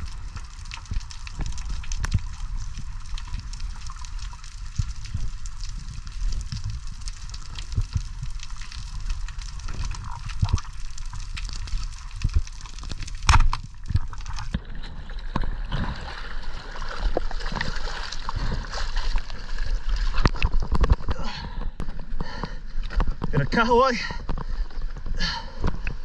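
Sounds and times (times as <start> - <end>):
underwater rumble: 0.0 - 23.4.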